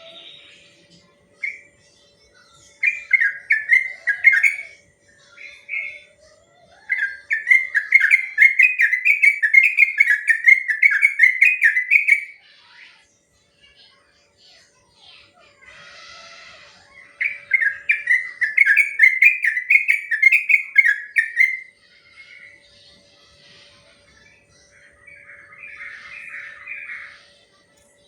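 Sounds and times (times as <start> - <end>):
bulbul singing: 0.0 - 12.5, 16.9 - 28.0.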